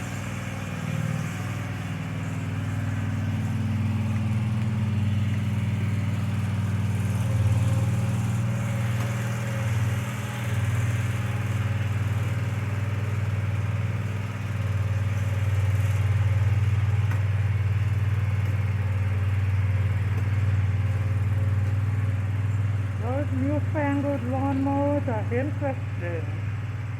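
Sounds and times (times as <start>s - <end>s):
lawn mower engine hum: 0.0s - 26.9s.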